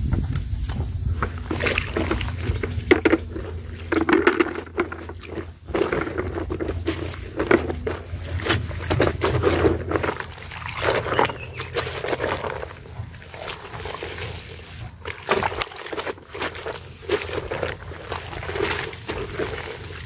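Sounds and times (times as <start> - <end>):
water sloshing in bucket: 0.0 - 20.0
wet fabric squelching: 0.6 - 20.0.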